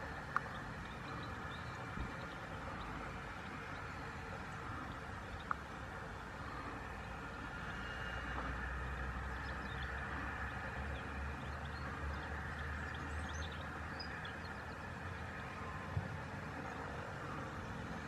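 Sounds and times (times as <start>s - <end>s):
distant traffic rumble: 0.0s - 18.0s
small birds chirping: 0.0s - 18.0s.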